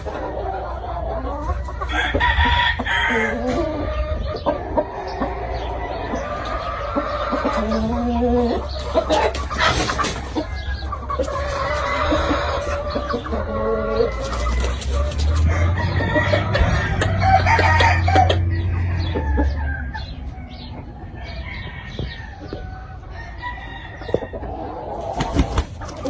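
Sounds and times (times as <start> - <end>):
chickens clucking: 0.0 - 26.0
roosters crowing: 0.0 - 26.0.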